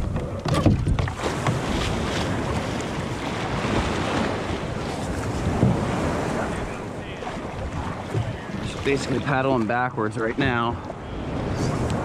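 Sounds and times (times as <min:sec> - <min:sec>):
water splashing against a board: 0:00.0 - 0:12.0
wind buffeting microphone: 0:00.0 - 0:12.0.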